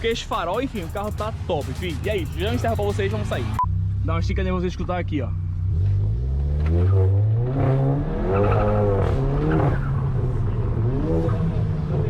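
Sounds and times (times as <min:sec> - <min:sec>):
turbocharged car engine revving: 0:00.0 - 0:12.0.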